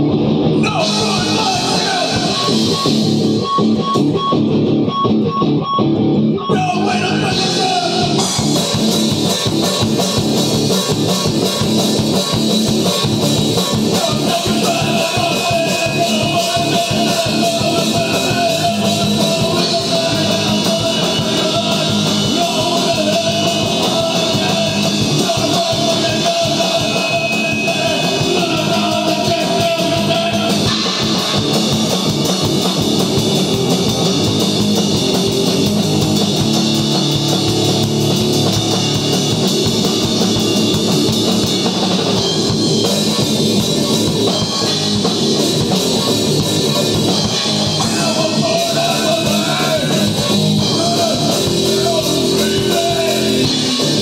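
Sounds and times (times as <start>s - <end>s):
rock band playing loud: 0.0s - 54.0s.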